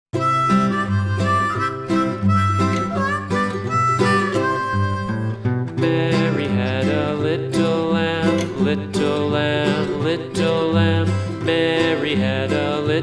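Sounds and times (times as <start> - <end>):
harmonica melody: 0.1 - 13.0
acoustic guitar strumming: 0.2 - 13.0.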